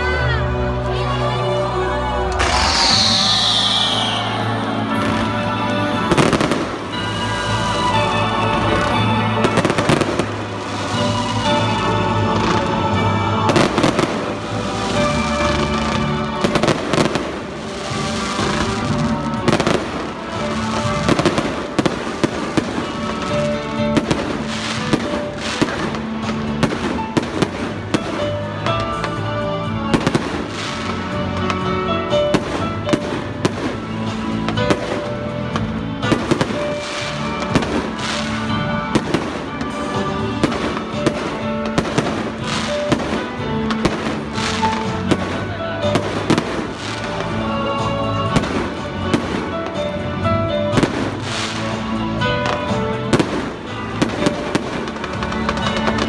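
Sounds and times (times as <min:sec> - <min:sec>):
melodic music: 0:00.0 - 0:56.0
fireworks bangs and crackles: 0:02.3 - 0:56.0.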